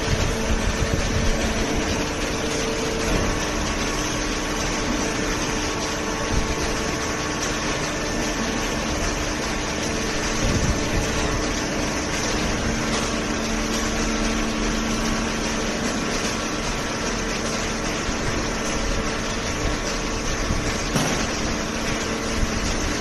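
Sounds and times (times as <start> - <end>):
baler machinery humming: 0.0 - 23.0.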